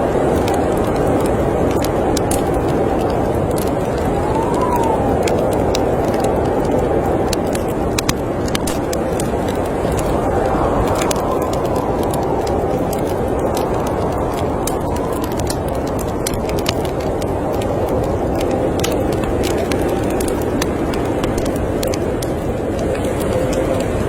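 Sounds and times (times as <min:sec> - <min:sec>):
storm wind blowing: 0:00.0 - 0:24.0
wood fire crackling and popping: 0:00.0 - 0:24.0.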